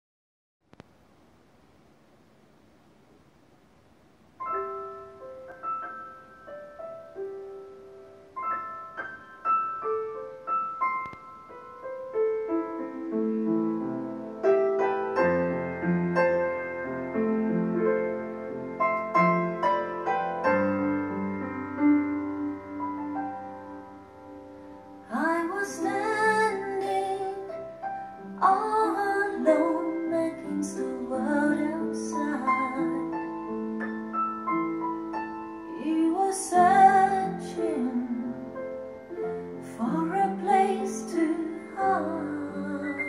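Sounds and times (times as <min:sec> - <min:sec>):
piano through speakers: 0:00.6 - 0:43.0.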